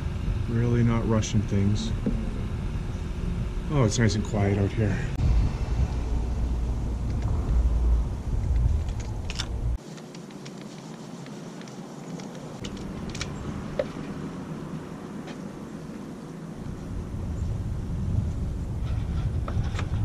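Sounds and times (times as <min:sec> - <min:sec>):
loud low outdoor rumble: 0:00.0 - 0:09.8, 0:12.4 - 0:20.0.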